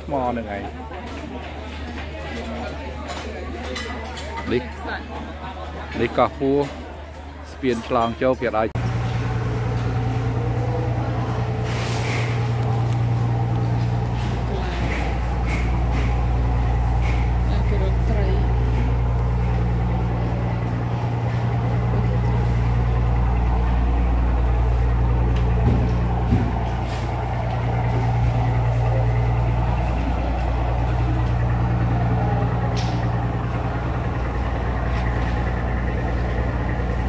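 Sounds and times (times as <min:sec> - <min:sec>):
large engine idling: 0:00.0 - 0:37.0.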